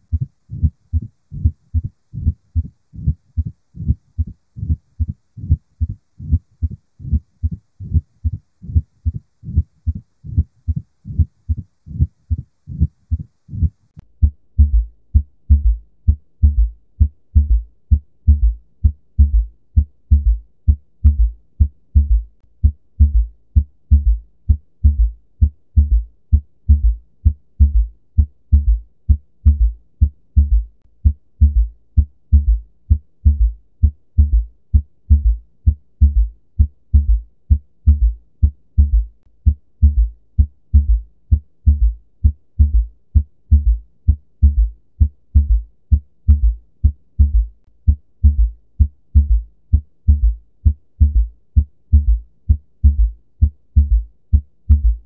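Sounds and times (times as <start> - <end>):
heartbeat gallop rhythm: 0.0 - 55.0.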